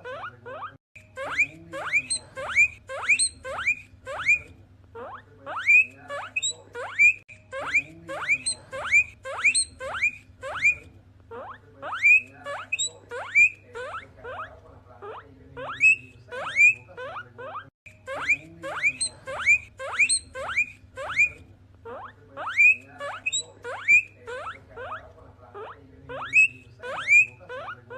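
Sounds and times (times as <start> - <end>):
guinea pig wheeking: 0.0 - 27.9.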